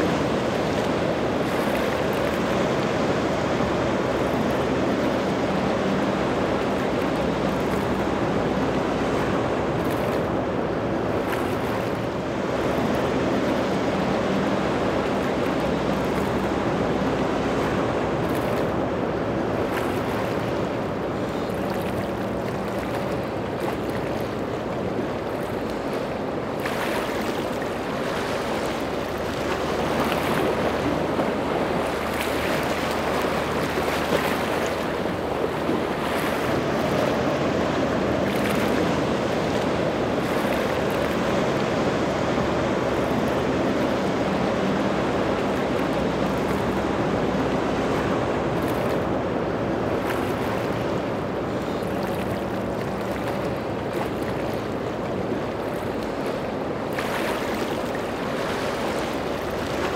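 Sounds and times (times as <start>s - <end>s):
boat engines running: 0.0s - 59.9s
waves and surf rushing: 0.0s - 59.9s.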